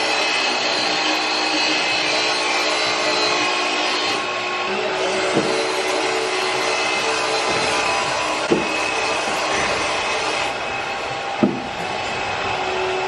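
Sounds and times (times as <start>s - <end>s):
machine motor whine: 0.0s - 13.0s.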